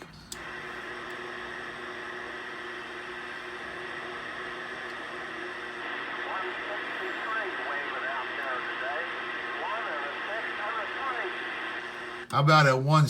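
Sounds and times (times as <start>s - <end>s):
faint steady hum: 0.0s - 13.0s
radio static hiss: 0.0s - 13.0s.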